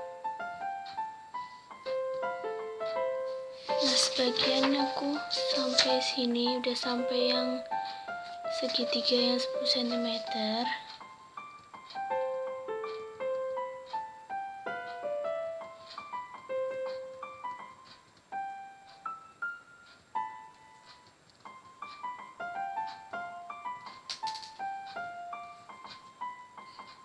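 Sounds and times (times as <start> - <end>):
electric piano melody: 0.0 - 27.0.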